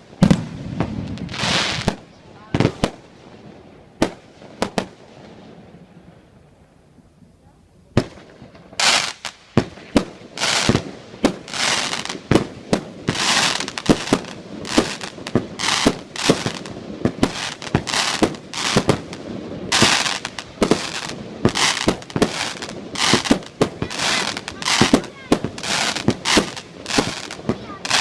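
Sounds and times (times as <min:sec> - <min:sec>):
fireworks hissing: 0:00.0 - 0:04.9, 0:08.0 - 0:28.0
fireworks bangs: 0:00.0 - 0:06.5, 0:07.9 - 0:28.0.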